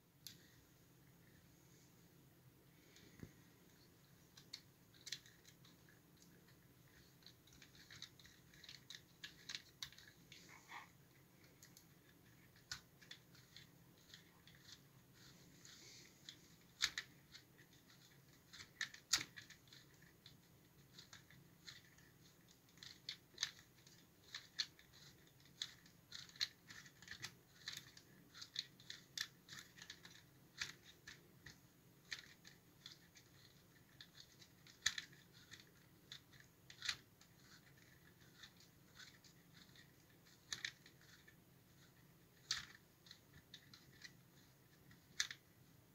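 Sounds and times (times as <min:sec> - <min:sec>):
plastic gears clicking: 0:02.9 - 0:10.6, 0:11.4 - 0:45.6.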